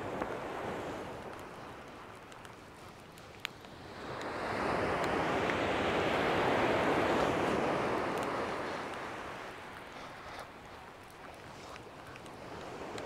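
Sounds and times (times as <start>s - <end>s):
wave washing up shingle beach: 0.0s - 13.0s.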